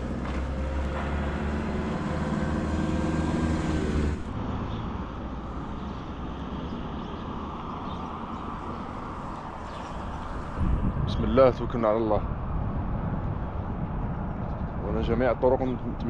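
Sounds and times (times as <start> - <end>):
steady rushing noise: 0.8 - 16.0.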